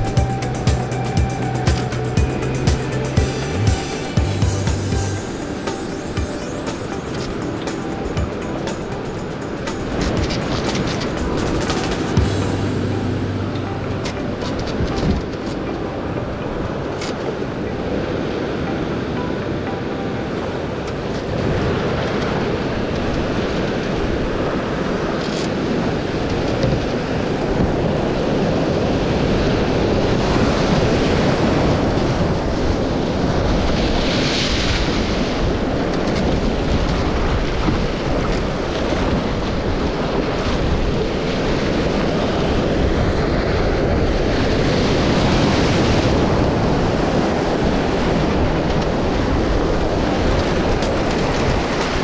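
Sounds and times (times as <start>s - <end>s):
rushing whitewater: 0.0s - 52.0s.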